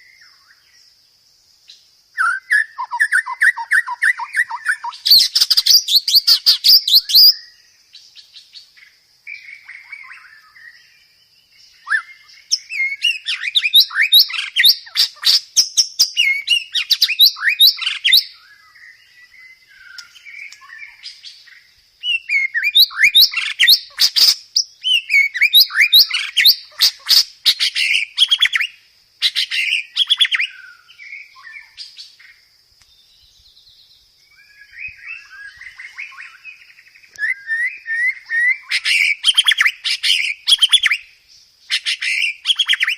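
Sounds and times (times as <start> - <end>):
bird singing chirps and trills: 0.0 - 42.9
faint high-pitched hiss: 0.0 - 42.9.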